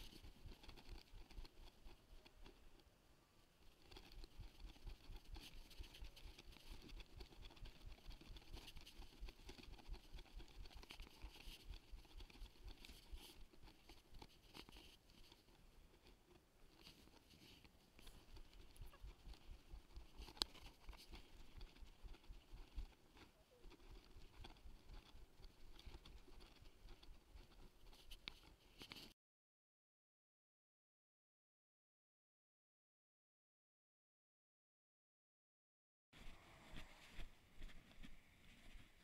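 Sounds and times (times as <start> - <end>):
faint patter and rustle: 0.0 - 29.2, 36.2 - 39.0.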